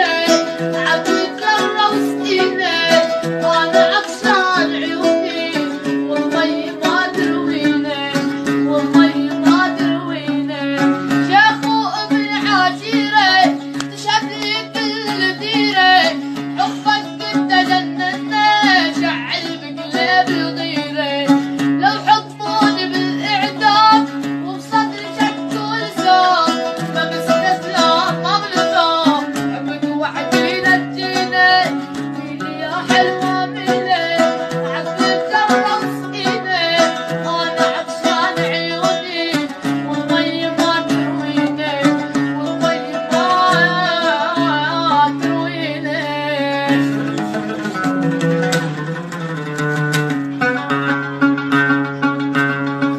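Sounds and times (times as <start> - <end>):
plucked-string accompaniment: 0.0 - 52.9
young man singing folk song: 0.0 - 52.9.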